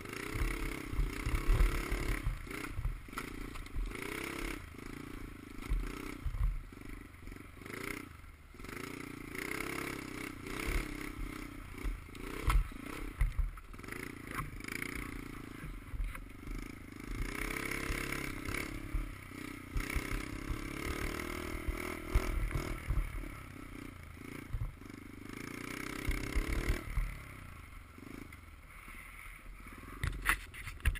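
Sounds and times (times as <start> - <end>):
dirt bike engine revving: 0.0 - 30.2.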